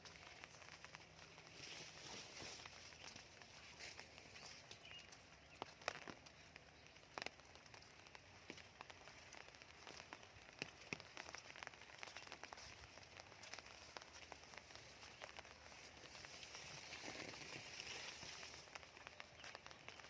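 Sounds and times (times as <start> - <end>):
raindrops dripping: 0.0 - 20.0.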